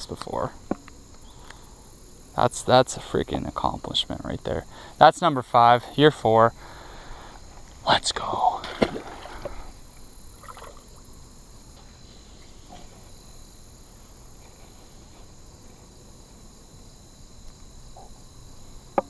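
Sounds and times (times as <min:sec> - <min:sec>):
faint outdoor background noise: 0:00.0 - 0:19.0
insects chirring: 0:00.0 - 0:19.0.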